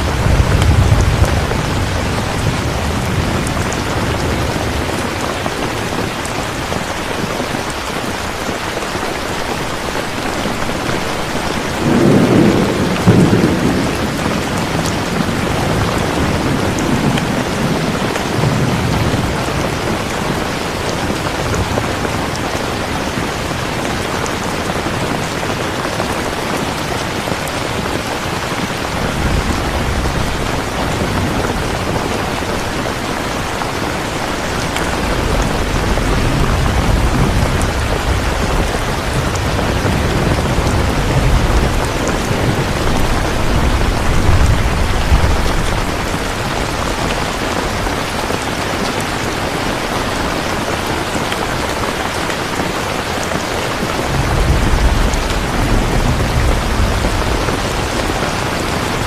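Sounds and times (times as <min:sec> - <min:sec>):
low rolling thunder: 0:00.0 - 0:06.8, 0:10.8 - 0:26.2, 0:27.2 - 0:49.6, 0:53.8 - 0:59.0
steady rain falling: 0:00.0 - 0:59.0.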